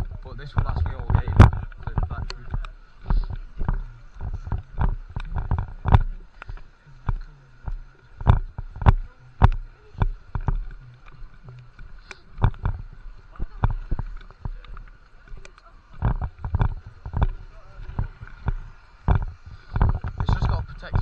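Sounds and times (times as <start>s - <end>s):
rustling: 0.0s - 21.0s
thumps on camera microphone: 0.0s - 21.0s.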